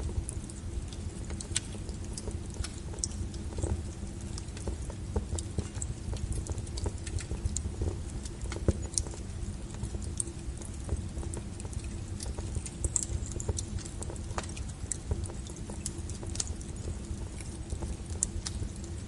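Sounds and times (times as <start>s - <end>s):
low rumble of burning: 0.0s - 19.0s
wood fire crackling: 0.0s - 19.0s.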